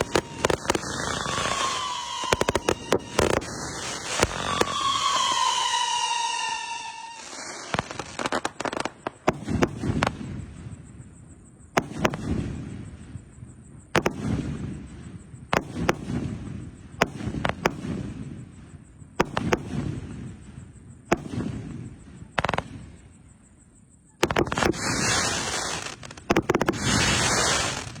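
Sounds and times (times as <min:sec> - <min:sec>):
fireworks reports with rumble: 0:00.0 - 0:23.5, 0:24.1 - 0:28.0.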